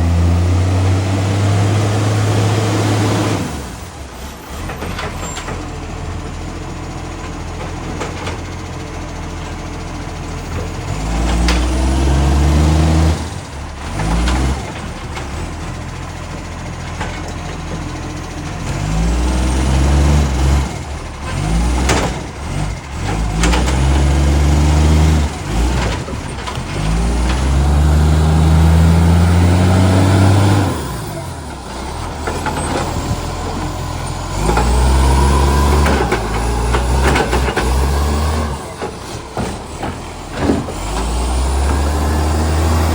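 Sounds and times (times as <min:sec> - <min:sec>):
garbage truck engine revving: 0:00.0 - 0:42.9.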